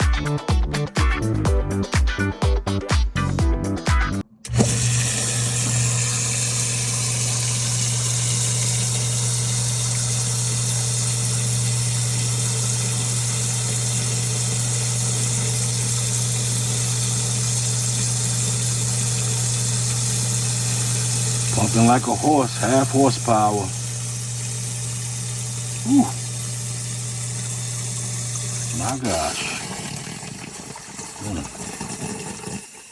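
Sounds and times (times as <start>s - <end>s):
sump pump pumping water: 4.4s - 32.9s.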